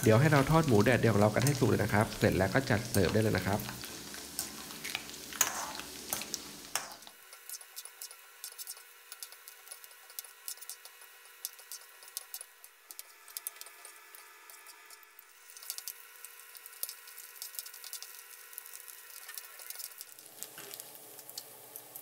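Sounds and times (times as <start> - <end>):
meat sizzling in hot oil: 0.0 - 22.0.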